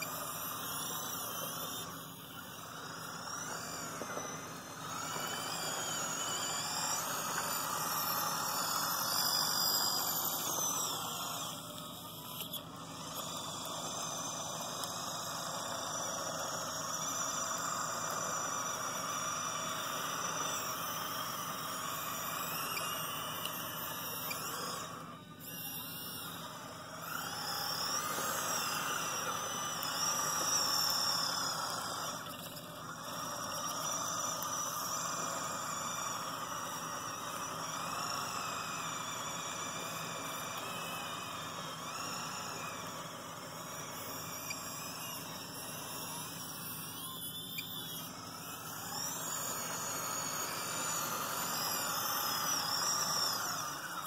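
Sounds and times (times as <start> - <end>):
small electric motors whining: 0.0 - 54.0.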